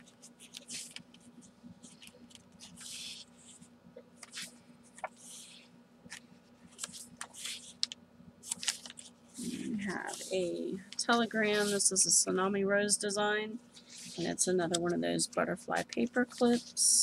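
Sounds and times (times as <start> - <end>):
paper pages rustling: 0.0 - 12.0, 13.7 - 15.0, 15.6 - 17.0.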